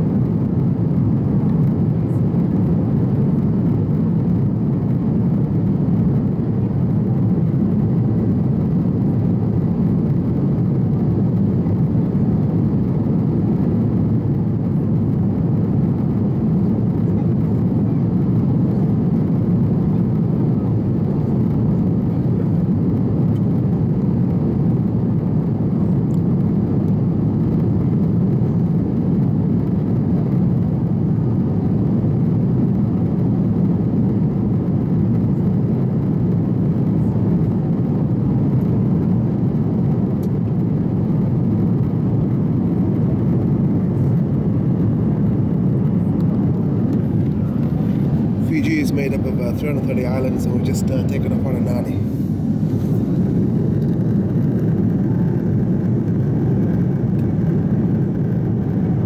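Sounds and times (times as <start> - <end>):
airliner cabin engine drone: 0.0 - 59.0.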